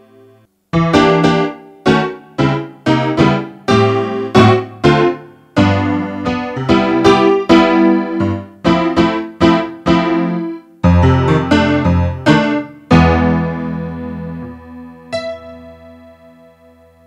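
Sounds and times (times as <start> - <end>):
synth piano chords and notes: 0.0 - 17.0.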